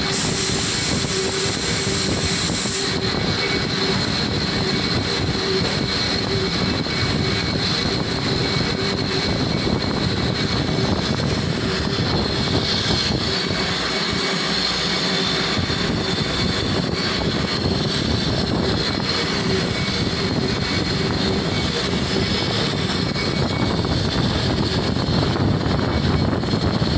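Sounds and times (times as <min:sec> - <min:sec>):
lathe running: 0:00.0 - 0:26.6.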